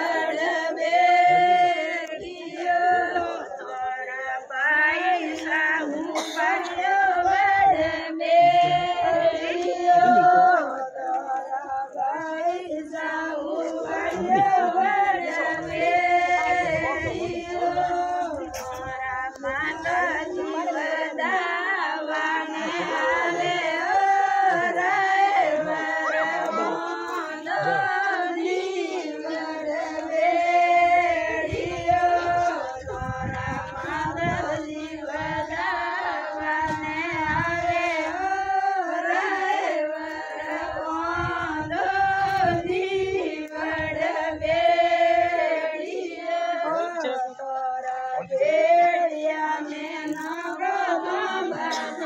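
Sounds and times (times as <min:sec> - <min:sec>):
women singing folk song in chorus: 0:00.0 - 0:52.0.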